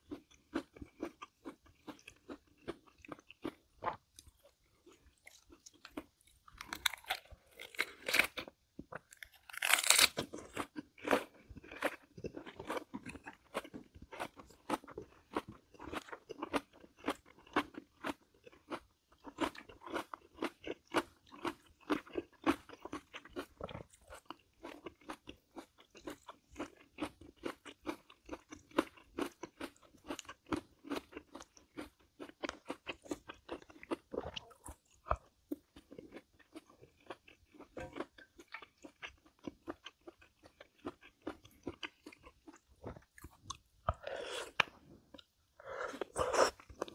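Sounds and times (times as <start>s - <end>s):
wet chewing with clicks: 0.0s - 45.3s
crunchy bites: 0.1s - 38.1s.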